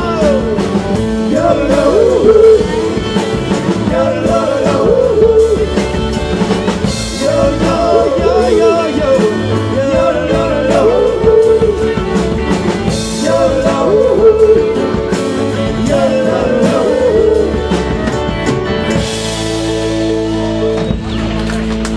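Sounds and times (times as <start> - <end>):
electric guitar lead: 0.0 - 21.9
live rock band playing: 0.0 - 21.9.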